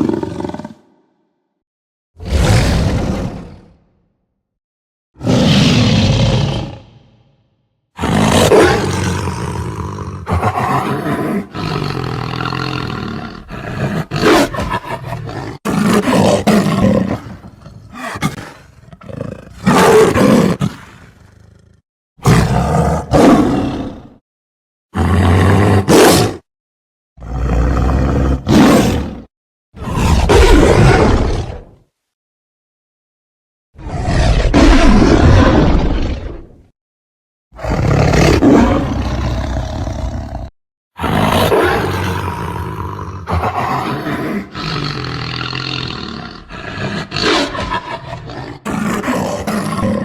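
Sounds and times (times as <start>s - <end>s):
lion roaring: 0.0s - 1.0s, 2.2s - 3.9s, 5.2s - 7.3s, 8.0s - 24.2s, 25.0s - 26.4s, 27.2s - 31.8s, 33.8s - 36.7s, 37.6s - 50.0s.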